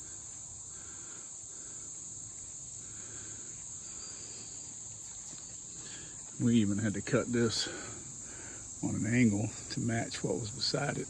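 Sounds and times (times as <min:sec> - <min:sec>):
fainter lower insect call: 0:00.0 - 0:11.0
insects trilling: 0:00.0 - 0:11.0.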